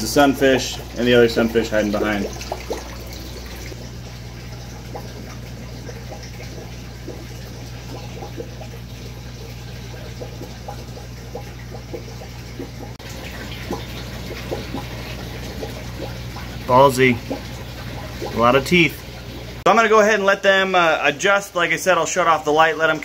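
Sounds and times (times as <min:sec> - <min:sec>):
filter pump humming: 0:00.0 - 0:23.0
water trickling and splashing: 0:00.0 - 0:23.0.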